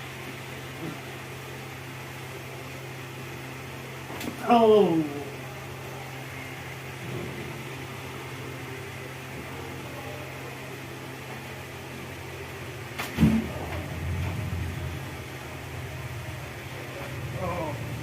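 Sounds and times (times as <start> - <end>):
low electrical fan hum: 0.0 - 18.0.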